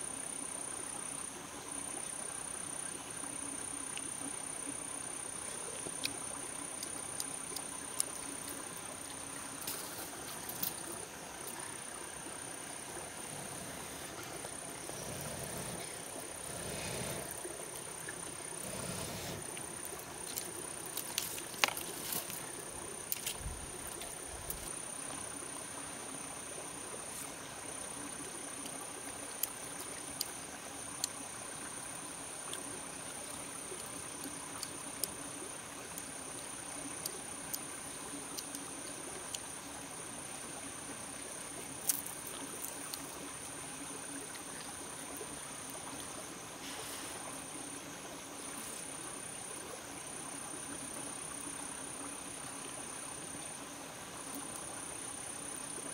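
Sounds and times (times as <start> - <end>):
soft hiss: 0.0 - 55.9.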